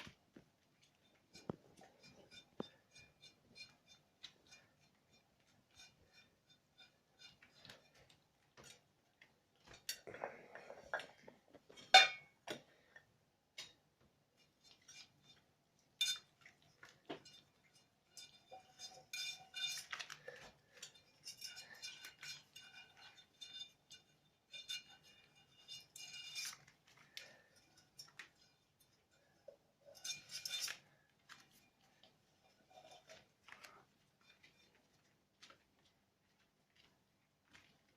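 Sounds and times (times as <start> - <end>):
dishes and cutlery clinking: 0.8 - 8.9, 9.6 - 12.7, 14.4 - 35.1.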